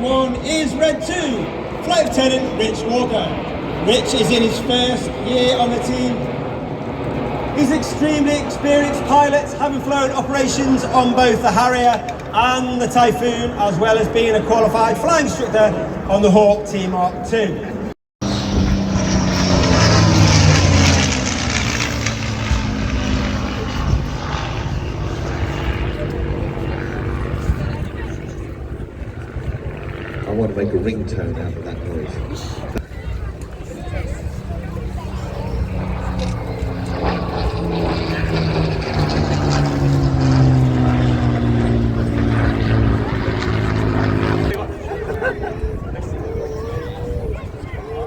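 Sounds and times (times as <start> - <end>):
jet aircraft roar overhead: 0.0 - 48.0.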